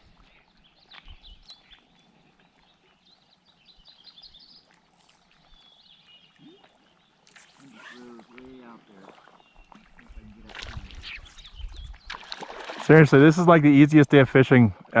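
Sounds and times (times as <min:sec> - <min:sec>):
songbird chirps: 0:00.0 - 0:14.5.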